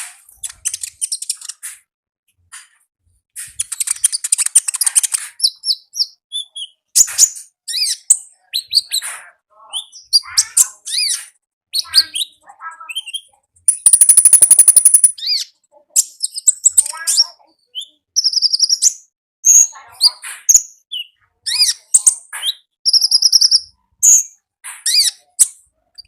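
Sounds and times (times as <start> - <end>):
songbird trilling and chirping: 3.6 - 9.1, 9.7 - 26.0.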